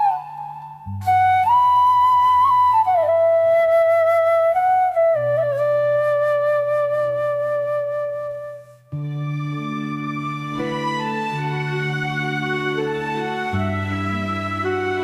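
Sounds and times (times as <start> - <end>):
slow melody of long held notes: 0.0 - 15.0.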